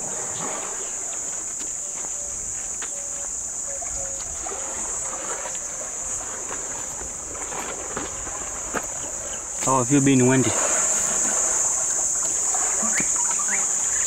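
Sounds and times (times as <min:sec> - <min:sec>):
insect chorus: 0:00.0 - 0:14.0.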